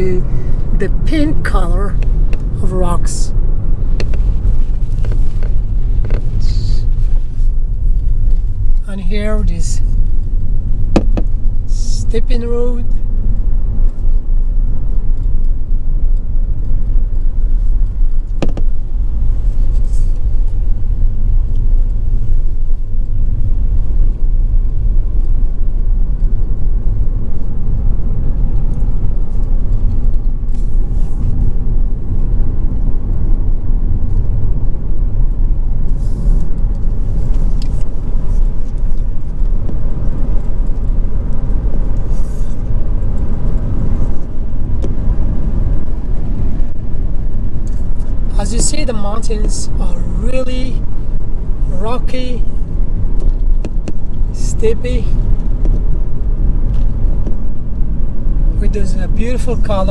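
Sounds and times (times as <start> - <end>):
car driving rumble: 0.0 - 59.9.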